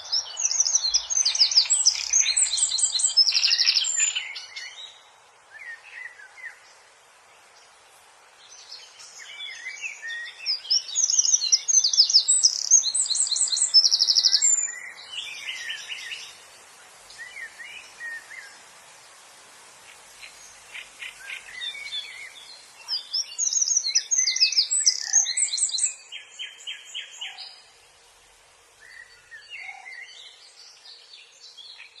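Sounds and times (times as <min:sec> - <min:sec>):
small bird singing: 0:00.0 - 0:19.2, 0:19.8 - 0:32.0.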